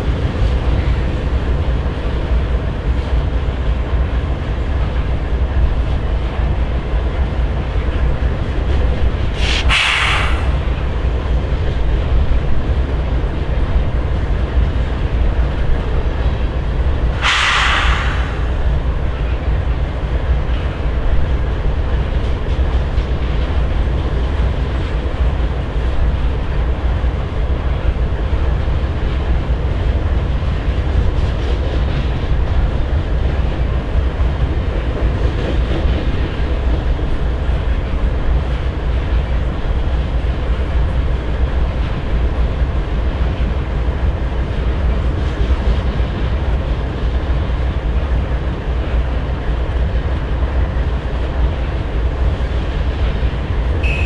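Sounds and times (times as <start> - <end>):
clickety-clack of rail joints: 0.0 - 54.0
train wheels rumbling on rails: 0.0 - 54.0.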